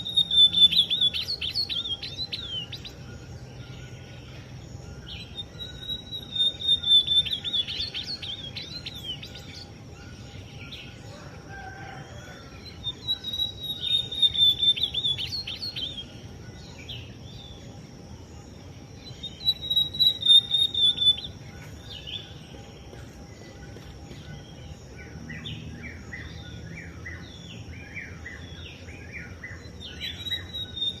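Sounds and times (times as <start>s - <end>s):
bird singing: 0.0s - 31.0s
insect drone: 0.0s - 31.0s.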